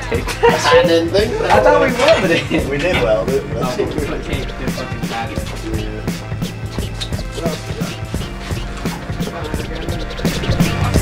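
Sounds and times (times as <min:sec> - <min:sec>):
hip-hop music with beat: 0:00.0 - 0:11.0.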